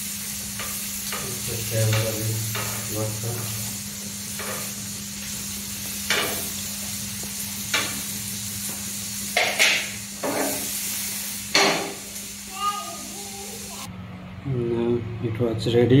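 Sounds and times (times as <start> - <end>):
chicken sizzling in a frying pan: 0.0 - 13.9.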